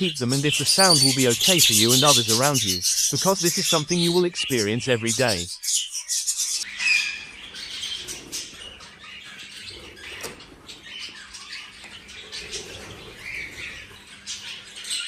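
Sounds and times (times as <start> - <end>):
budgies chirping: 0.0 - 15.0.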